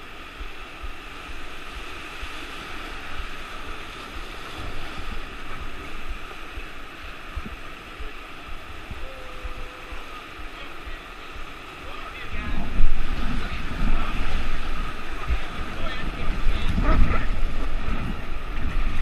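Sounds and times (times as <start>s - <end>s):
whitewater rapid rushing: 0.0s - 19.0s.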